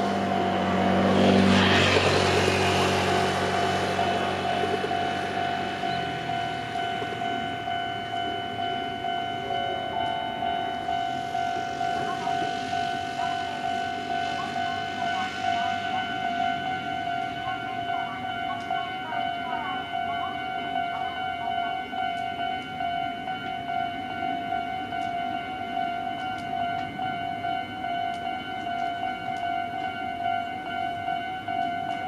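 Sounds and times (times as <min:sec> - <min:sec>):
electric train passing: 0:00.0 - 0:32.0
level crossing alarm ringing: 0:02.3 - 0:32.0.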